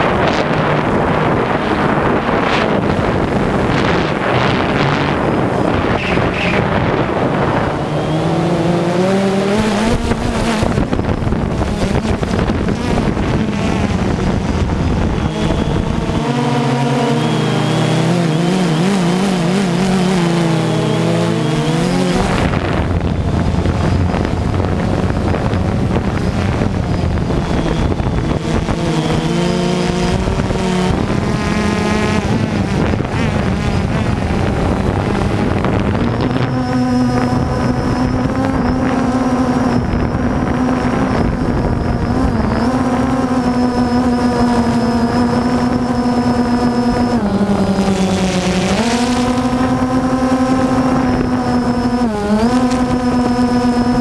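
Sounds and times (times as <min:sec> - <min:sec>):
drone motors buzzing: 0:00.0 - 0:54.0
wind on microphone: 0:00.0 - 0:54.0.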